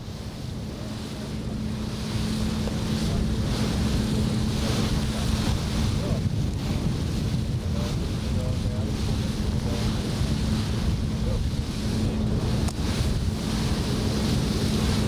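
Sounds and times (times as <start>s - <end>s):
boat engine droning: 0.0s - 15.0s
water rushing along hull: 0.0s - 15.0s
wind buffeting microphone: 0.0s - 15.0s.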